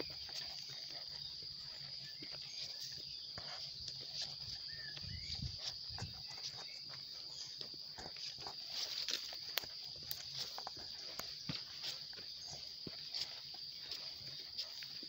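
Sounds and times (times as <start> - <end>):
bird chirps: 0.0 - 8.6, 10.2 - 15.0
footsteps on grassy dirt trail: 0.0 - 15.0
insects chirring: 0.0 - 15.0.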